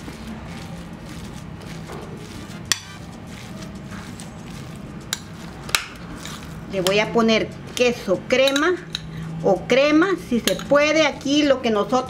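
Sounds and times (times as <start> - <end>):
metal spoon scraping glass bowl: 0.0 - 12.0.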